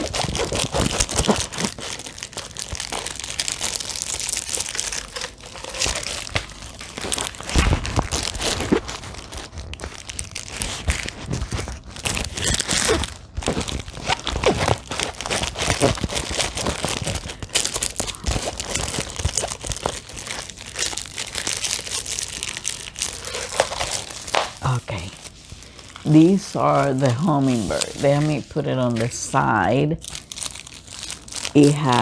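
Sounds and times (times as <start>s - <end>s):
plastic packaging crinkling: 0.0s - 32.0s.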